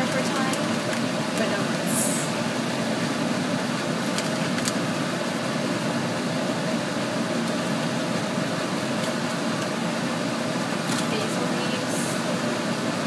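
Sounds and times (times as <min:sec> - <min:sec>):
mechanical whir with low hum: 0:00.0 - 0:13.0.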